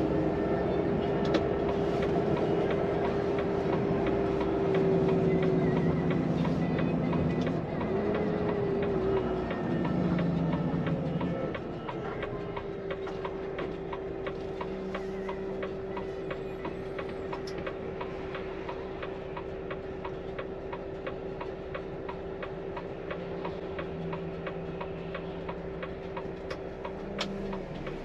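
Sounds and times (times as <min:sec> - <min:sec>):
truck engine hum: 0:00.0 - 0:28.0
turn signal ticking: 0:00.2 - 0:28.0.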